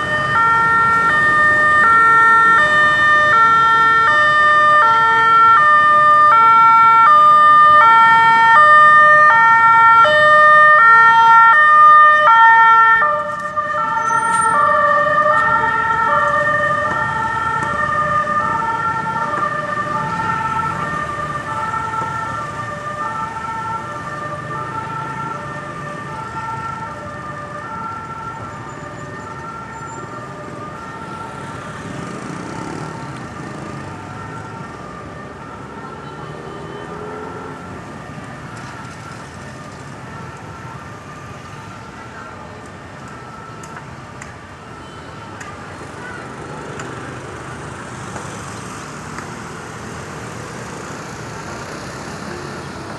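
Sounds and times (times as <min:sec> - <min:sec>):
ambulance siren two-tone wail: 0:00.0 - 0:48.5.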